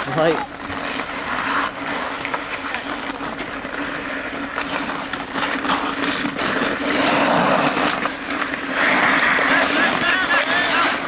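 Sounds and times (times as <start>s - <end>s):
hockey sticks clacking: 0.0s - 11.0s
skates scraping on ice: 0.0s - 11.0s.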